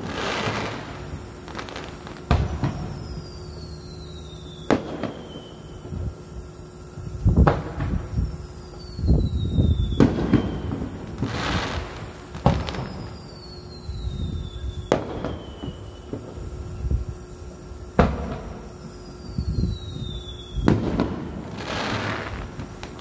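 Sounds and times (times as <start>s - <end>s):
falling firework whistle: 0.0s - 23.0s
firework bangs: 0.0s - 23.0s
firework crackling hiss: 0.0s - 23.0s.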